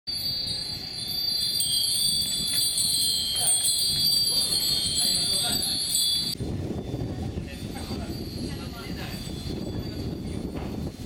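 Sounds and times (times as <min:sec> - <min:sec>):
wind bells ringing: 0:00.1 - 0:11.0.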